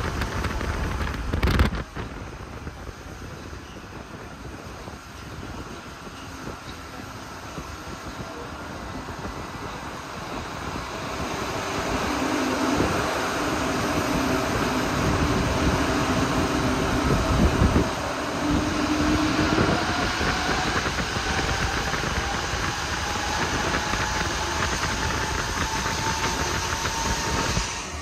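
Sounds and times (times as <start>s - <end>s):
metro train rolling noise: 0.0s - 28.0s.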